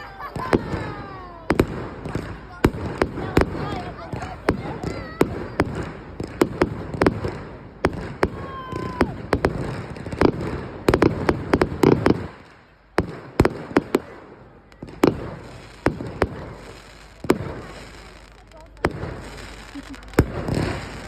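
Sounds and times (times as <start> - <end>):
firework whistling: 0.0 - 21.0
fireworks banging: 0.0 - 21.0.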